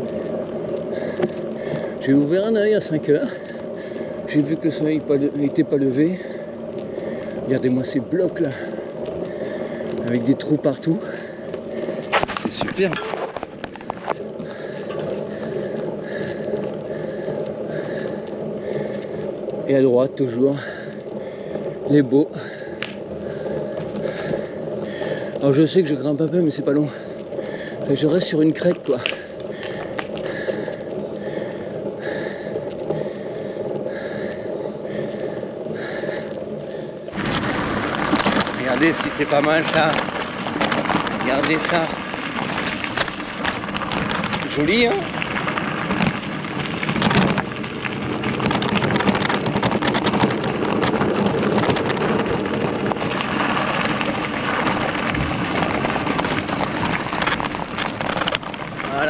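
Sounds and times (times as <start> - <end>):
cyclist breathing hard: 0.0 - 58.9
bicycle road noise: 0.0 - 59.0
wind buffeting microphone: 0.0 - 59.0.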